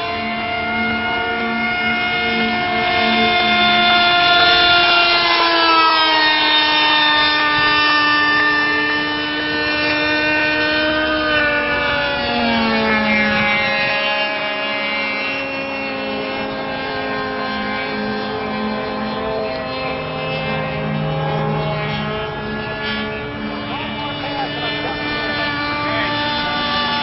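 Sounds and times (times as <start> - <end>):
model airplane engine droning: 0.0 - 27.0.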